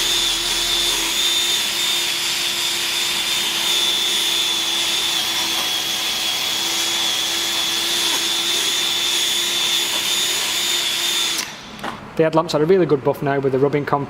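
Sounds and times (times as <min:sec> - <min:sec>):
electric drill whining: 0:00.0 - 0:12.0.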